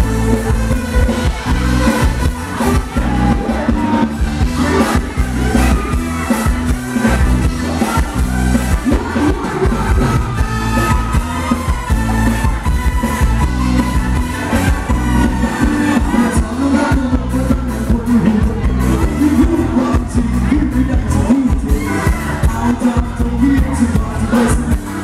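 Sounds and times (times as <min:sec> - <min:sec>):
live band dance music: 0:00.0 - 0:25.0
person singing: 0:00.0 - 0:25.0.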